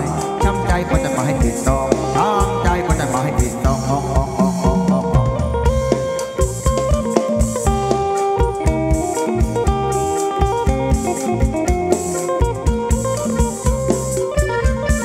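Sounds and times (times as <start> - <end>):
drum kit beat: 0.0 - 15.0
electric guitar lines: 0.0 - 15.0.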